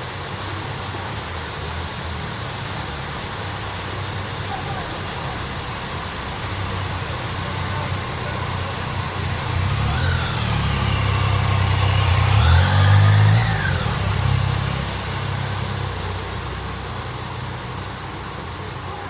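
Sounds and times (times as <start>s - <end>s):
bus engine revving: 0.0s - 19.0s.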